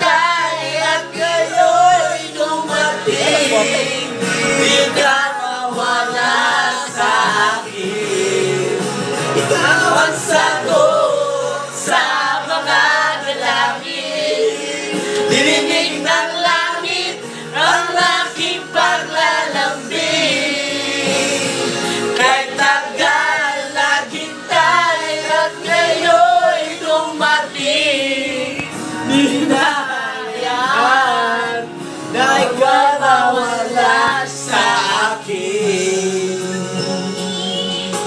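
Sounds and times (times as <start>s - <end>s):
men singing together: 0.0s - 38.0s.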